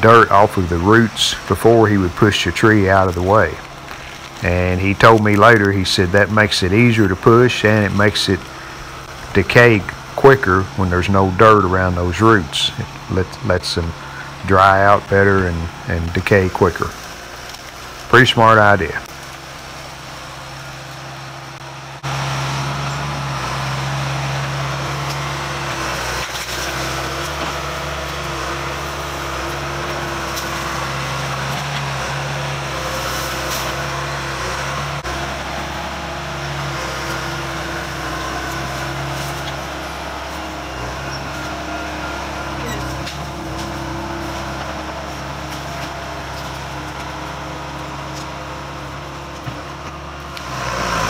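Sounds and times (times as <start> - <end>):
diesel engine under load: 0.0 - 51.0.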